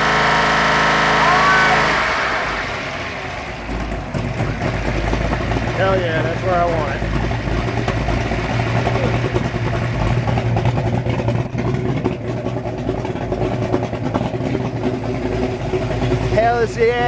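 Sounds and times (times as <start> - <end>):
boat engine running steadily: 0.0 - 17.0.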